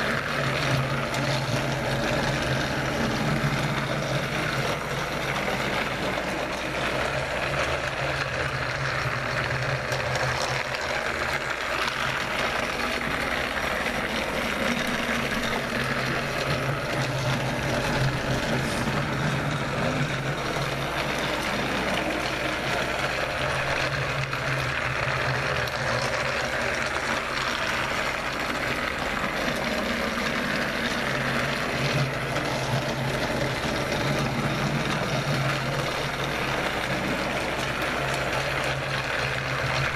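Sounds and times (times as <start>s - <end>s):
toy train motor whirring: 0.0s - 39.9s.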